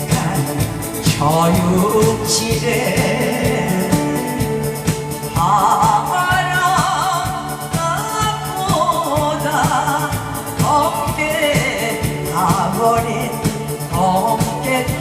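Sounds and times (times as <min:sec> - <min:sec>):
backing track drum beat: 0:00.0 - 0:15.0
person singing with vibrato: 0:00.0 - 0:15.0.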